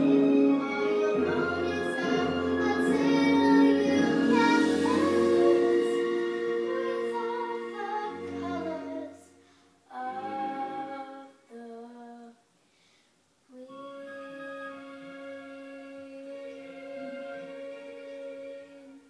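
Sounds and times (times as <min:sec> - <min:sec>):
held chord of backing music: 0:00.0 - 0:12.2, 0:13.6 - 0:19.0
girl singing a slow ballad: 0:00.0 - 0:12.4, 0:13.5 - 0:19.0.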